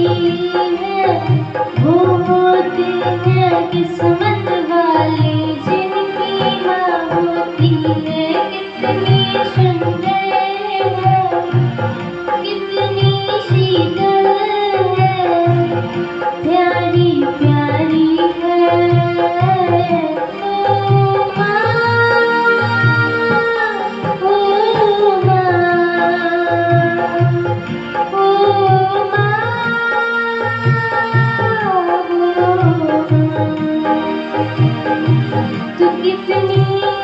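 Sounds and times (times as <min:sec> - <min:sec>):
girl singing into a microphone: 0:00.0 - 0:37.0
rhythmic drum accompaniment: 0:00.0 - 0:37.0.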